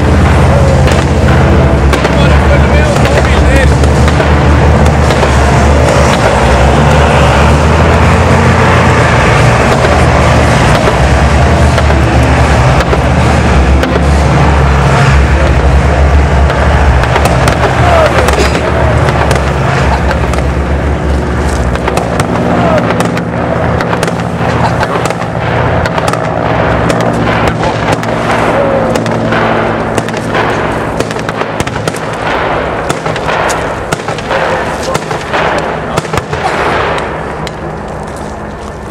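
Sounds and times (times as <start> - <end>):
autocannon firing rapid shots: 0.0 - 37.5
armoured vehicle engines rumbling: 0.0 - 38.9.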